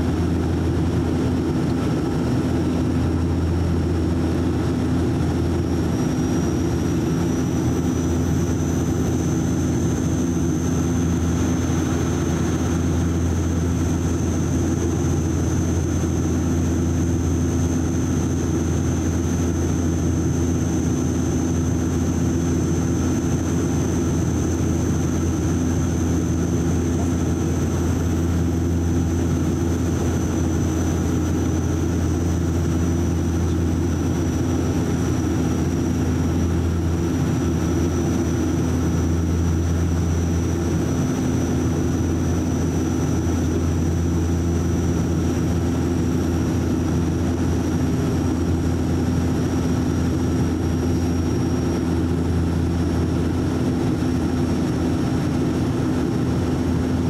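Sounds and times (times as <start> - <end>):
airliner cabin propeller drone: 0.0 - 57.0.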